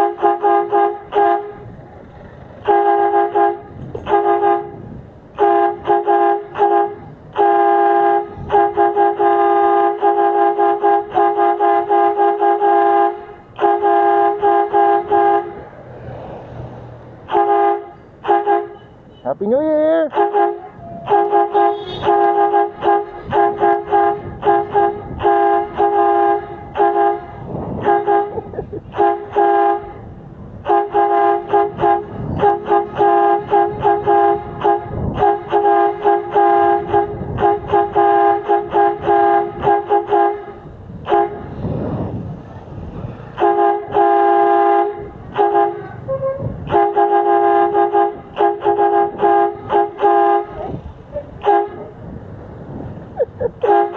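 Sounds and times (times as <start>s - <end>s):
air horn honking: 0.0s - 1.7s, 2.6s - 15.7s, 17.2s - 42.2s, 43.3s - 52.2s, 53.6s - 53.9s.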